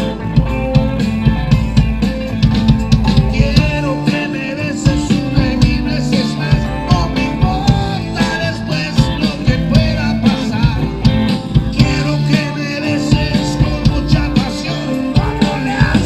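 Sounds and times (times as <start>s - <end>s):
drums steady beat: 0.0s - 16.0s
live rock band playing: 0.0s - 16.0s.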